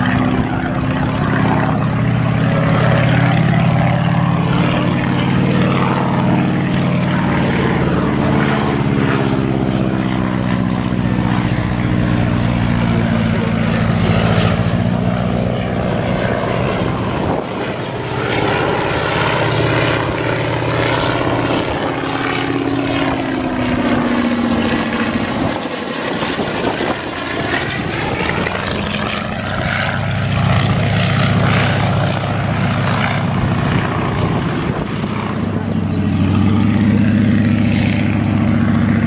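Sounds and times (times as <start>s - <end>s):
biplane engine and propeller droning: 0.0s - 39.0s.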